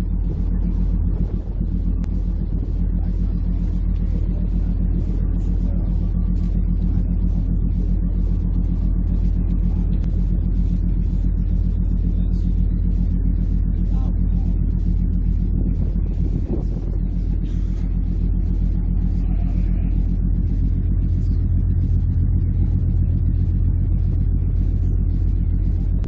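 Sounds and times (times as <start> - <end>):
diesel engines rumbling: 0.0 - 26.0.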